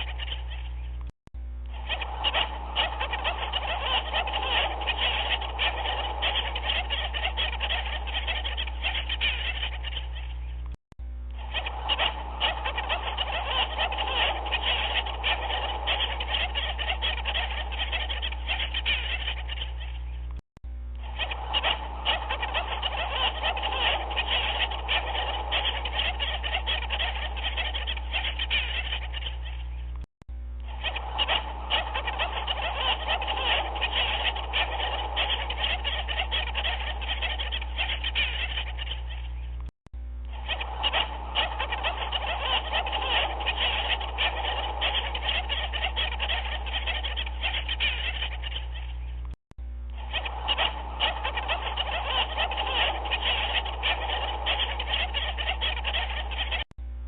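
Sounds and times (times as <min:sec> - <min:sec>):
chorus of rapid animal calls: 0:00.0 - 0:01.1, 0:01.7 - 0:20.4, 0:21.0 - 0:30.0, 0:30.6 - 0:49.3, 0:49.9 - 0:56.7
low steady hum: 0:00.0 - 0:57.0.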